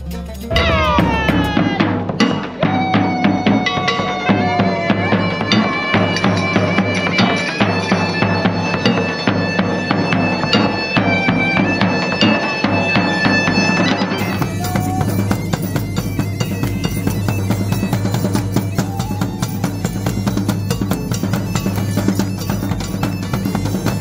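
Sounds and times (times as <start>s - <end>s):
side drum beating: 0.0s - 24.0s
bagpipe playing: 2.6s - 24.0s.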